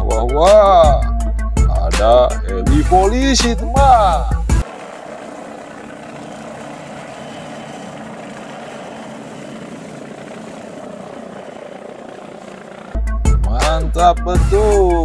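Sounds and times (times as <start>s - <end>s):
helicopter rotor and engine: 2.0s - 15.0s.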